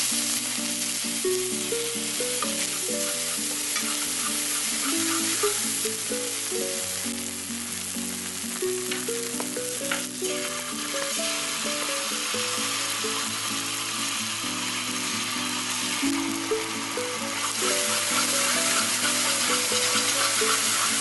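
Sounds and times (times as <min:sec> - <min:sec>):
food sizzling in hot oil: 0:00.0 - 0:21.0
background music: 0:01.2 - 0:21.0.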